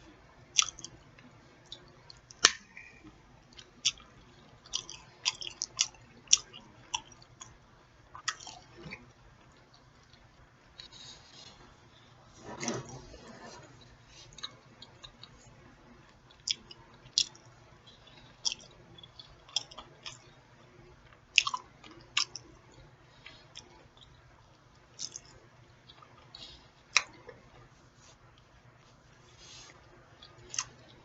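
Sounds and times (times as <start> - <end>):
person chewing food: 0.5 - 12.2, 12.8 - 31.0.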